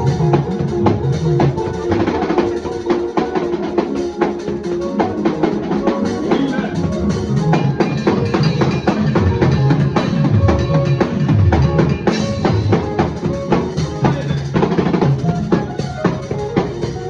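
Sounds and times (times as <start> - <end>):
drum kit with band: 0.0 - 17.0.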